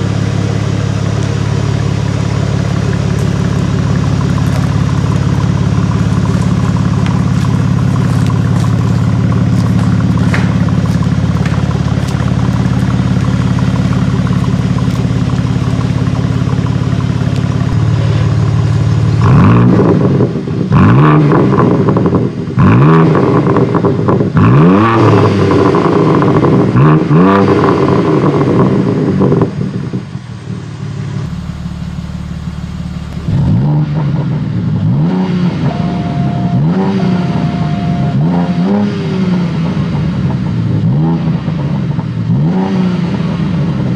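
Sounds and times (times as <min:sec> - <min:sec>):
car engine revving in blips: 0:00.0 - 0:30.0, 0:30.9 - 0:43.9
car engine idling: 0:00.0 - 0:43.9.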